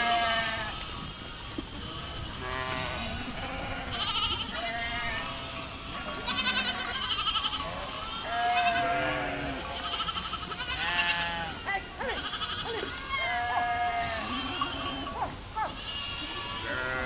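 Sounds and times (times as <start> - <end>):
goats bleating: 0.0 - 17.0.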